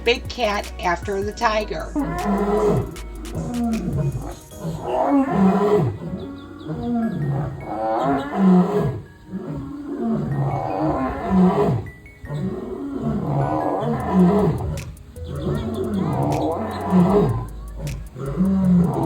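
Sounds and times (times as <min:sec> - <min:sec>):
lion roaring: 0:02.0 - 0:19.0.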